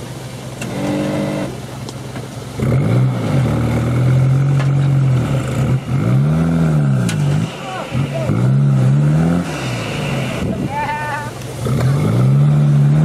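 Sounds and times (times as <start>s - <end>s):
engine revving hard: 0.6s - 1.6s, 2.6s - 13.0s.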